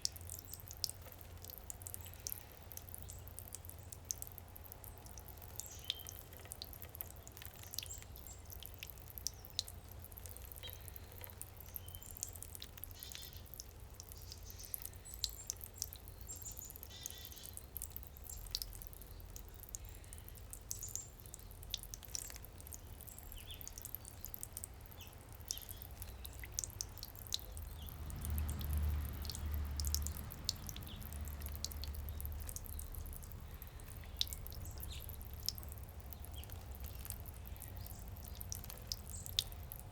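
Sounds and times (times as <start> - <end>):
fountain water trickling: 0.0 - 39.9
songbirds chirping: 0.0 - 39.9.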